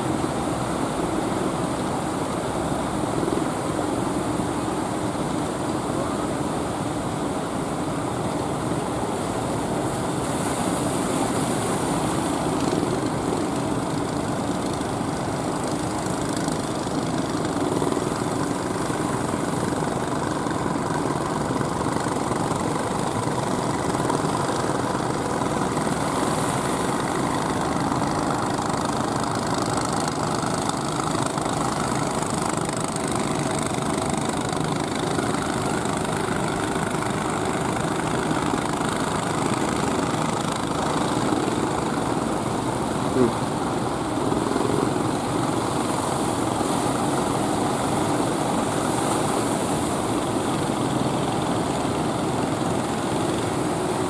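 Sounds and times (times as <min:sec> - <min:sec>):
choppy sea wash: 0:00.0 - 0:54.0
boat motors running: 0:02.4 - 0:54.0.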